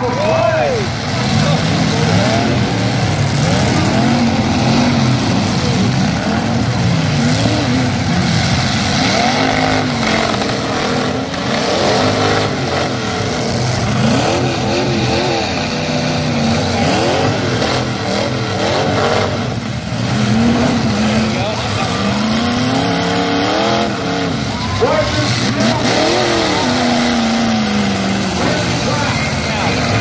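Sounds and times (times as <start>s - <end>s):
truck engines revving: 0.0s - 30.0s.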